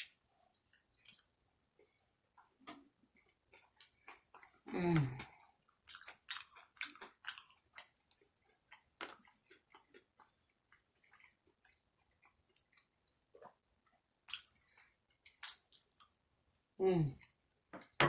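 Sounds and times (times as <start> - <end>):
person chewing food: 0.0 - 16.2.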